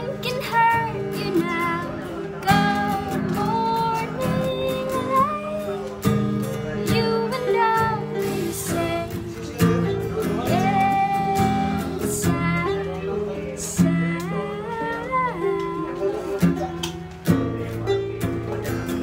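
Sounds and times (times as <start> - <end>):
woman singing: 0.0 - 16.6
acoustic guitar strumming: 0.0 - 19.0
ukulele playing: 0.0 - 19.0.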